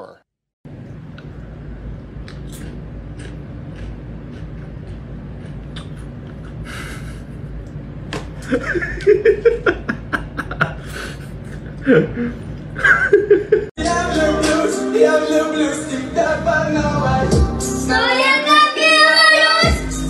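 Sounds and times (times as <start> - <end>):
steady low hum: 0.7 - 18.2.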